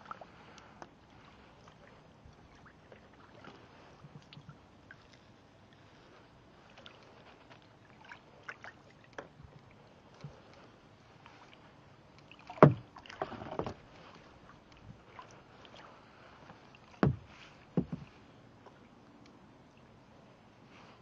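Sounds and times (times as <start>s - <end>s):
water splashing: 0.0s - 18.9s.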